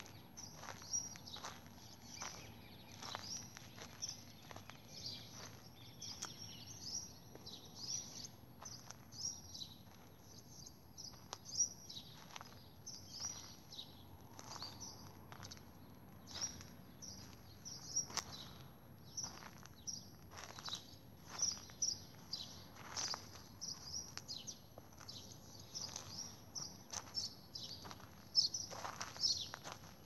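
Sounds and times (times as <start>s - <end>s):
faint background hum: 0.0s - 30.0s
small birds chirping: 0.0s - 30.0s.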